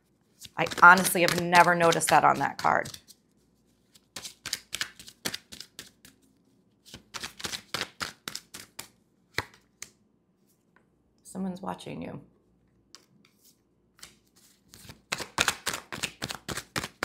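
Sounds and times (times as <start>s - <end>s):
cards being shuffled: 0.3s - 10.0s, 13.0s - 17.0s.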